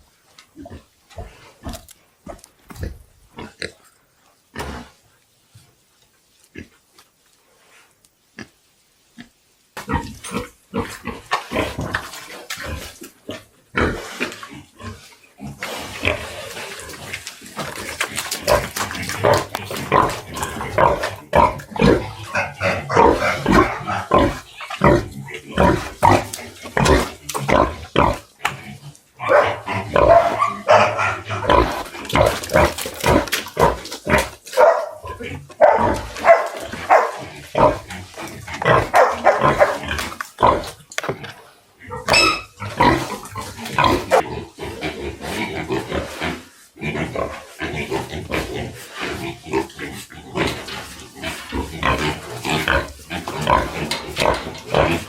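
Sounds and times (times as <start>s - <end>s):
pigs grunting: 9.9s - 55.0s.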